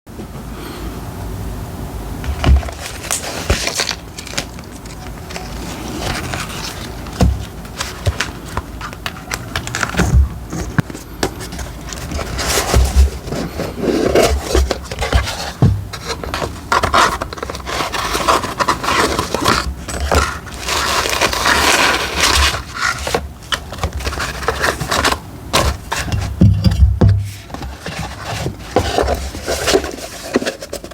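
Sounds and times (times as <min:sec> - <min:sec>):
paper scraping and rustling: 0:02.2 - 0:30.9.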